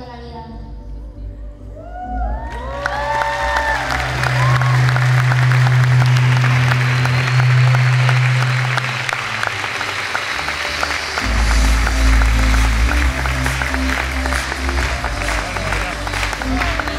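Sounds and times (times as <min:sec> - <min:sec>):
low music: 0:00.0 - 0:16.9
audience applauding: 0:02.4 - 0:16.9.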